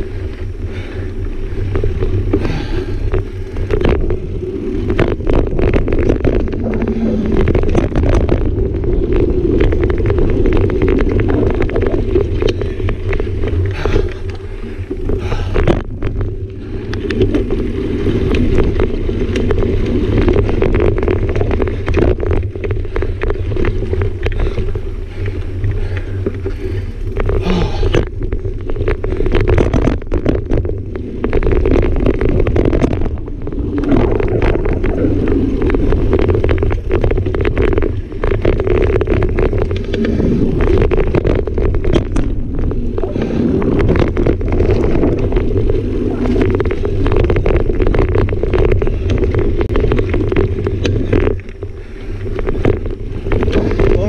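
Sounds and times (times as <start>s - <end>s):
bike rattling over rough ground: 0.0s - 54.0s
bike tyres on dirt: 0.0s - 54.0s
wind rumble on microphone: 0.0s - 54.0s.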